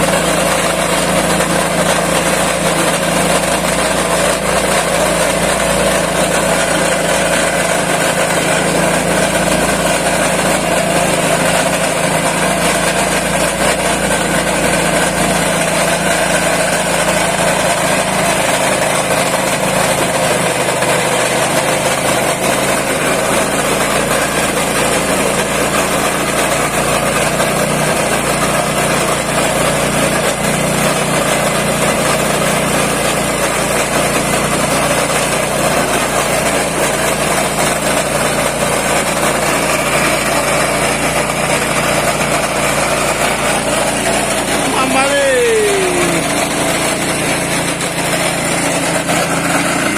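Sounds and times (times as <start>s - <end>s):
coffee grinder running: 0.0s - 49.9s.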